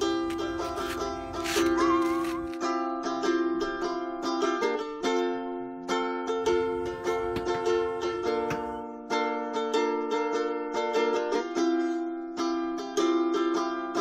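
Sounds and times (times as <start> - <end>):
plucked ukulele melody: 0.0 - 14.0.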